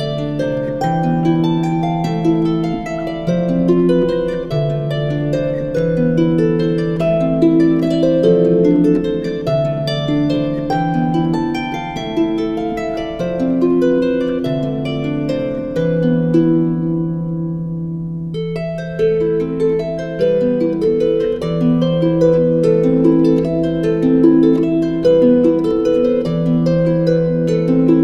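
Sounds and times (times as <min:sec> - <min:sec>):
plucked harp melody: 0:00.0 - 0:28.0.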